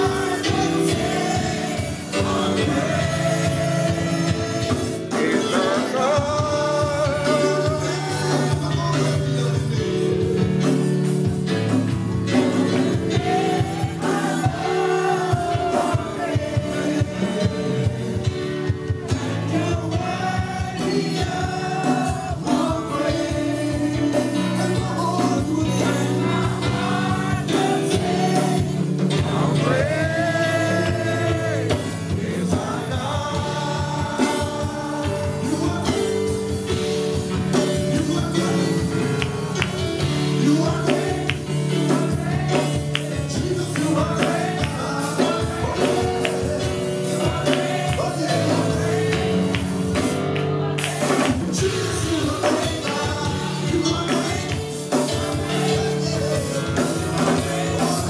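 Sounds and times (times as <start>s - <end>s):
instrumental accompaniment: 0.0s - 58.0s
voices singing gospel song: 0.0s - 58.0s.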